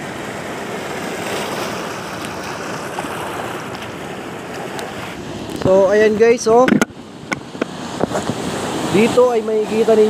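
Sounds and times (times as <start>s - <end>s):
small waves on rocky shore: 0.0s - 10.0s.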